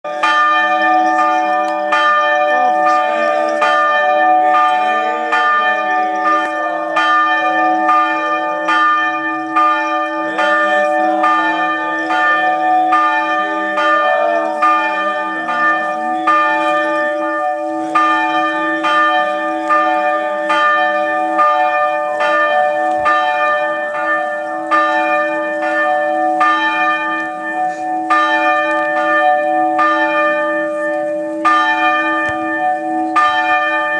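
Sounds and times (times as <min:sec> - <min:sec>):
church bell ringing: 0:00.0 - 0:33.9.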